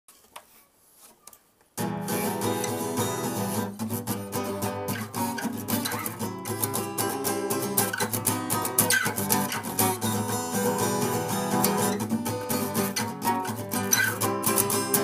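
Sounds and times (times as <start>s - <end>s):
acoustic guitar strummed fast: 1.8s - 15.0s.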